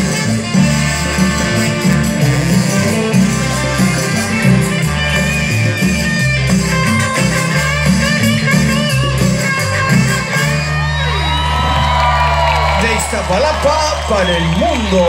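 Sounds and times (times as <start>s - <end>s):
bass line: 0.0s - 15.0s
live band through a pa: 0.0s - 15.0s.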